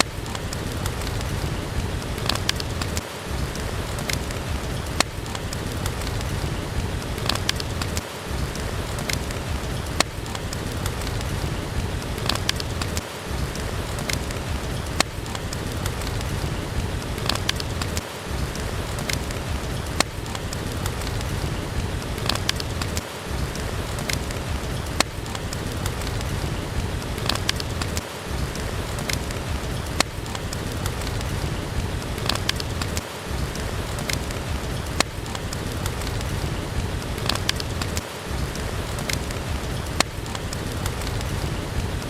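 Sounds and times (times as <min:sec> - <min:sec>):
fireplace crackling and popping: 0:00.0 - 0:42.0
steady rain: 0:00.0 - 0:42.0.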